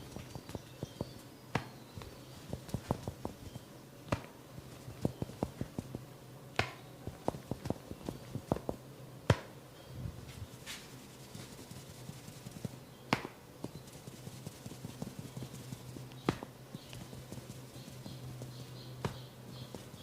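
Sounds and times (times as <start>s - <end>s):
massage taps and slaps: 0.0s - 3.5s, 4.1s - 9.5s, 12.4s - 20.0s
low steady hum: 0.0s - 20.0s.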